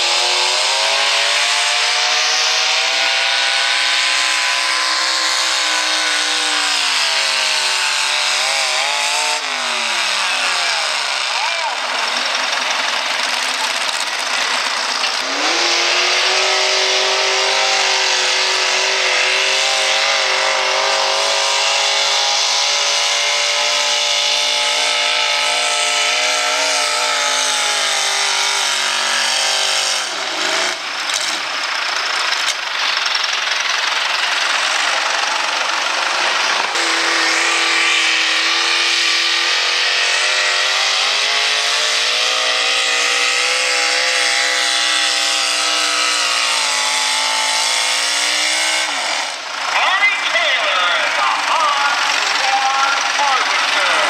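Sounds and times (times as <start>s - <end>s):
tractor engines revving high: 0.0s - 54.0s.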